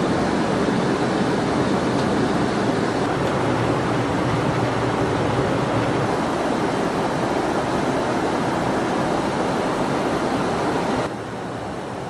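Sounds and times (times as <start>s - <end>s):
aircraft cabin rushing noise: 0.1s - 11.1s.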